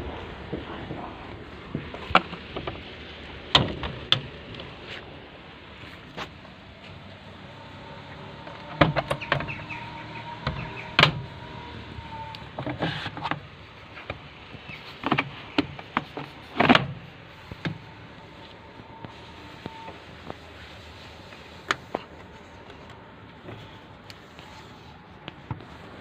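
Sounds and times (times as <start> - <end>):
faint steady whine: 0.0 - 26.0.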